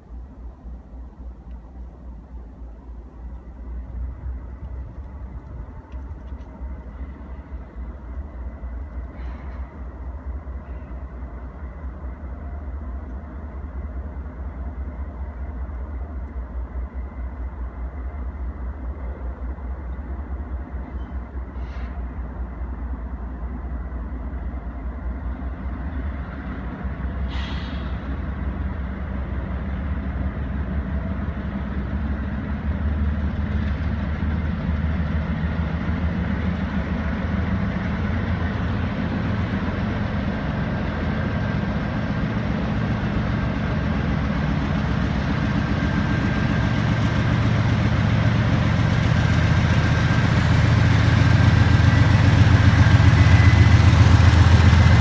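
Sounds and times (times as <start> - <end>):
diesel locomotive drone: 0.0 - 55.0.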